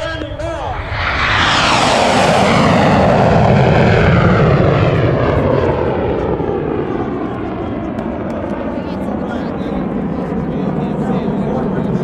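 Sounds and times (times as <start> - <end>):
jet roaring past: 0.0 - 12.0.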